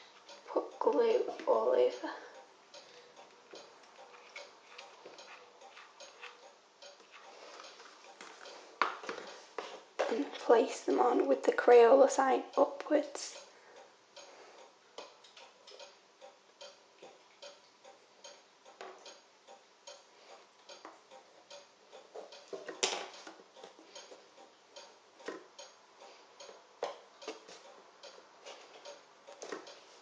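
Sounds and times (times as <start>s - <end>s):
faint steady ticking: 0.0s - 30.0s.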